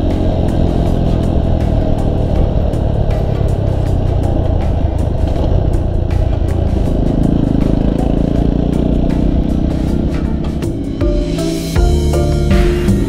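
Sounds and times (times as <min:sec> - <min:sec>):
wind and road noise: 0:00.0 - 0:12.4
motorcycle engine running: 0:00.0 - 0:13.0.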